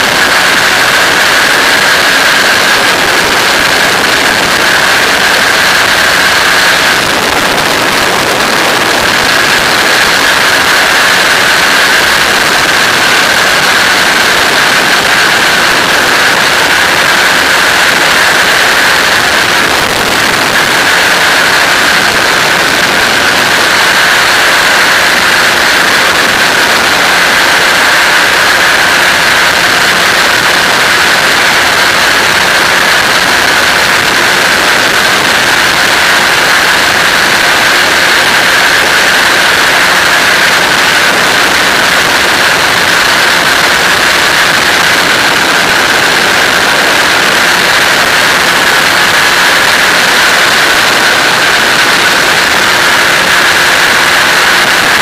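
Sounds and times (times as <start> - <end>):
microlight engine droning: 0.0 - 55.0
wind rushing over microphone: 0.0 - 55.0.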